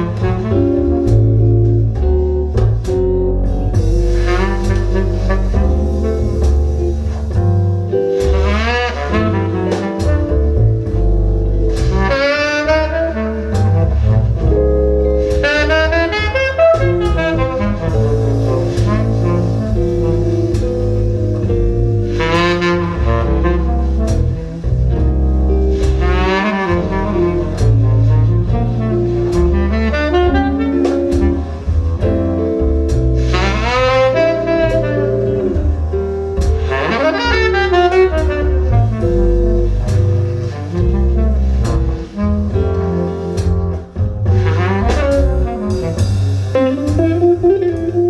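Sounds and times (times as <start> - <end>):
jazz through loudspeakers: 0.0 - 48.0.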